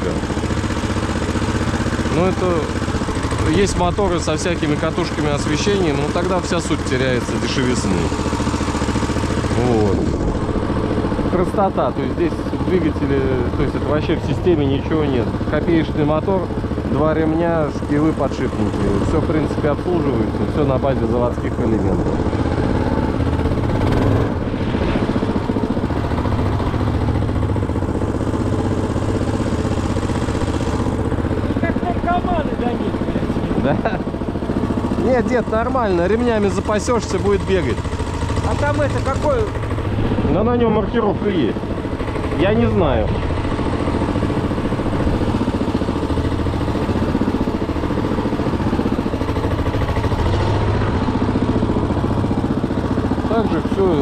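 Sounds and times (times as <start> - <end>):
small engine pulsing steadily: 0.0 - 54.0.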